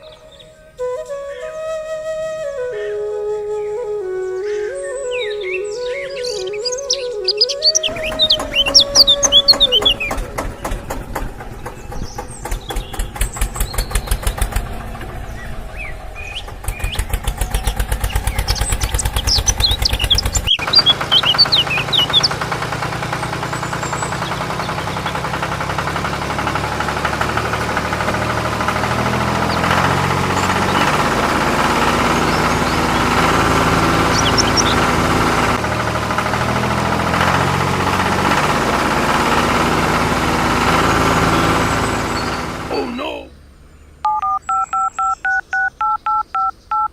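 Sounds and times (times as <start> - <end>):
birds chirping: 0.0 - 46.9
small engine chugging: 3.8 - 46.9.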